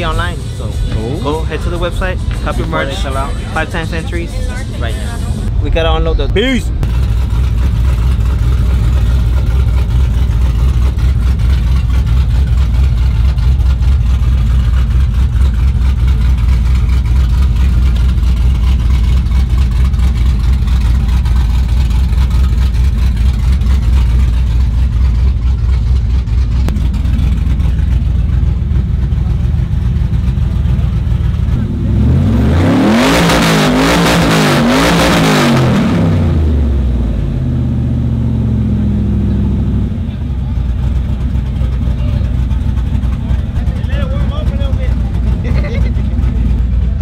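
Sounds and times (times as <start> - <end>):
truck engine rumbling: 0.0 - 47.0.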